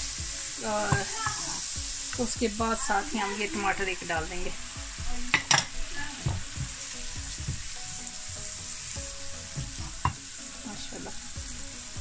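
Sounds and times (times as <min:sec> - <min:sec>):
tomato sizzling in hot oil: 0:00.0 - 0:12.0.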